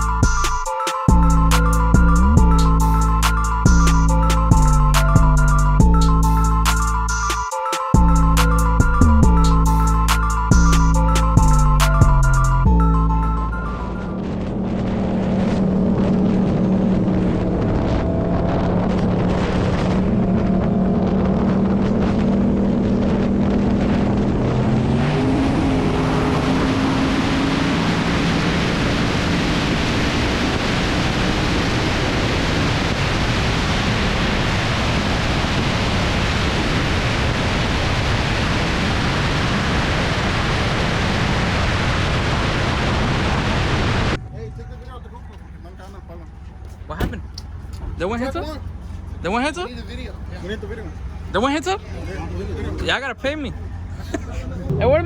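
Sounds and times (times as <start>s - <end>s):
droning tones rising in pitch: 0.0s - 7.4s, 8.0s - 55.0s
vehicle rushing at high speed: 8.0s - 55.0s.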